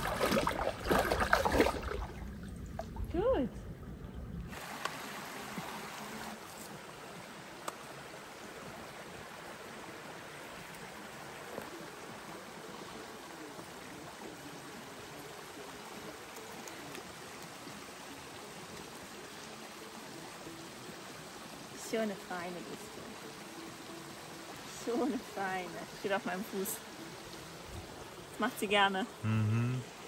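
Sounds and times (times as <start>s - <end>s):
stream running over stones: 0.0s - 30.0s.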